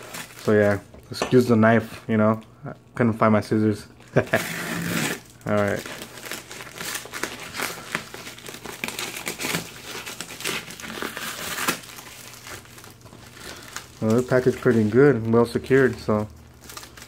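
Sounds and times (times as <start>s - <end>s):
paper packaging crinkling: 0.0s - 1.6s, 3.9s - 17.0s.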